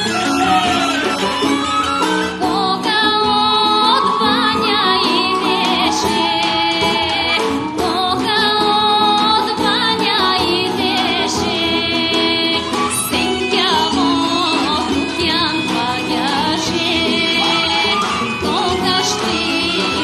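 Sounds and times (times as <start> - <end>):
folk band playing: 0.0 - 20.0
woman singing: 0.0 - 20.0.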